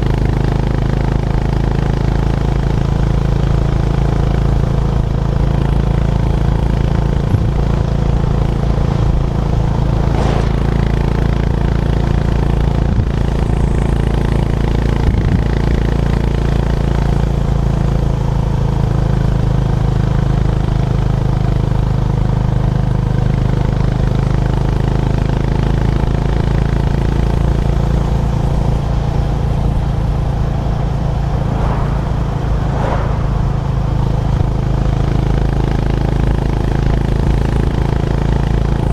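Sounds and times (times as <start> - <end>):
motorcycle engine running: 0.0 - 31.6.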